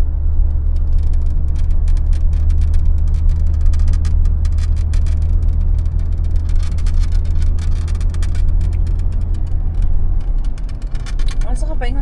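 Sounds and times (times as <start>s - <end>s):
vehicle rumble: 0.0s - 12.0s
small rattling clicks: 0.4s - 11.9s.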